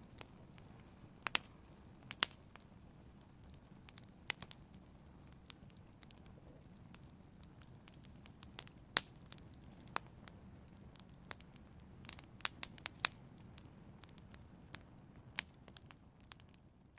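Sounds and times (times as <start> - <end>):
fire crackling and popping: 0.0 - 16.9
low rumble of flame: 0.0 - 16.9.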